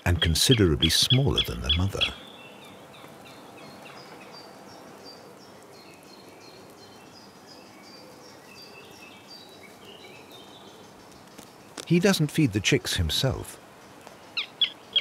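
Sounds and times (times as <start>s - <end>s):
small birds chirping: 0.0s - 15.0s
soft steady hiss: 0.0s - 15.0s.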